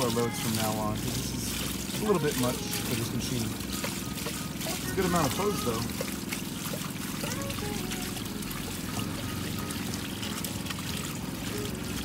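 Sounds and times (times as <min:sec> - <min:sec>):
water pouring onto wet clothes: 0:00.0 - 0:12.0.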